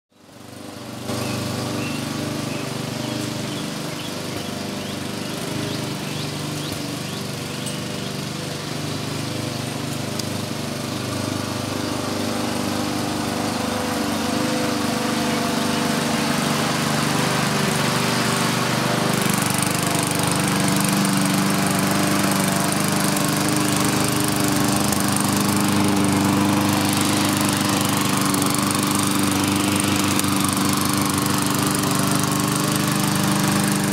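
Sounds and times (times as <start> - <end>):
lawn mower engine running: 0.2 - 33.9.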